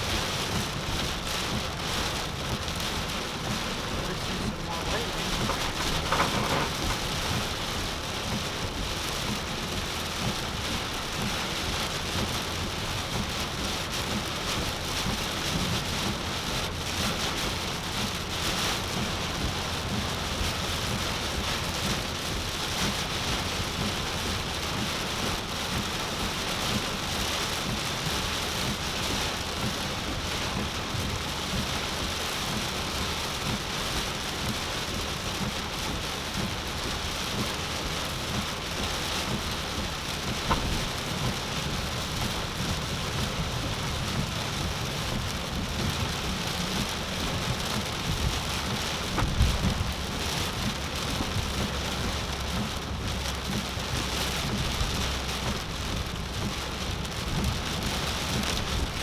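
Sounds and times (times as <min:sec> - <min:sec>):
heavy rain pouring on a car: 0:00.0 - 0:59.0.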